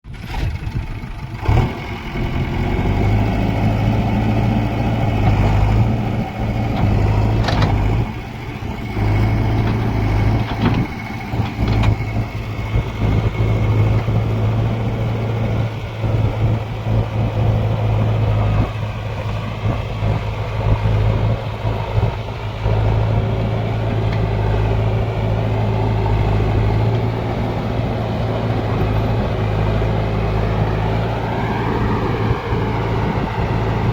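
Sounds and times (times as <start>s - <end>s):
diesel engine running steadily: 0.0s - 33.9s.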